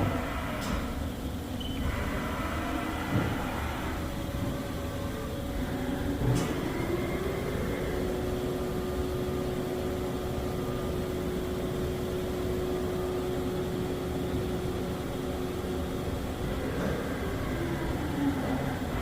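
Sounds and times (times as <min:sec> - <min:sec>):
machine hum with whine: 0:00.0 - 0:19.0.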